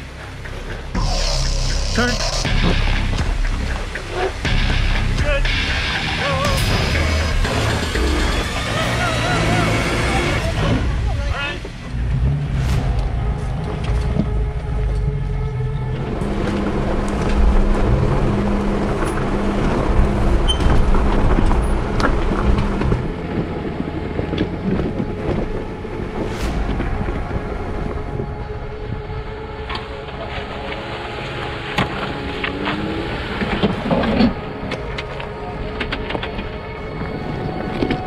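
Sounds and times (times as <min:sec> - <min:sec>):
off-road engine rumble: 0:00.0 - 0:38.0.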